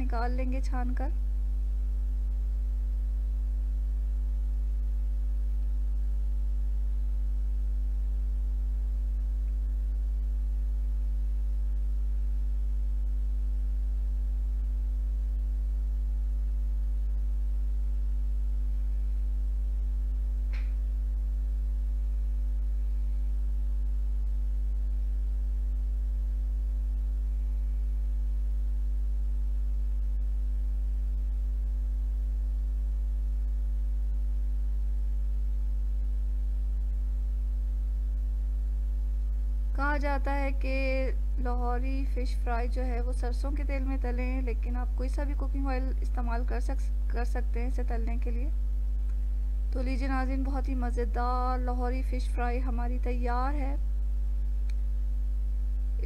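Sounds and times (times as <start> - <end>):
low electrical mains hum: 0.0 - 56.0.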